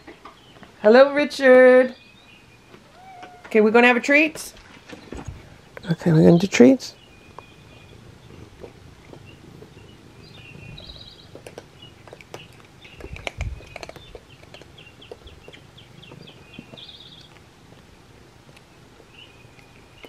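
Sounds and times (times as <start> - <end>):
birds chirping: 0.0 - 17.4, 18.6 - 20.0.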